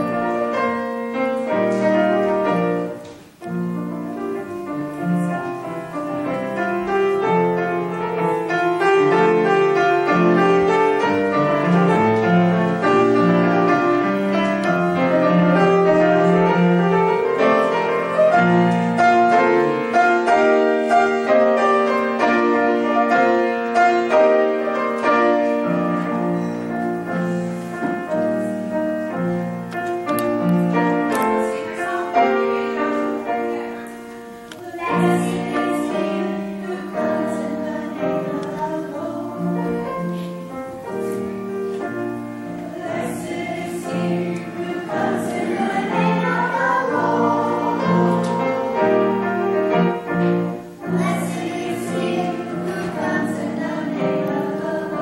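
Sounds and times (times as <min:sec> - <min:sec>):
piano playing chords and melody: 0:00.0 - 0:55.0.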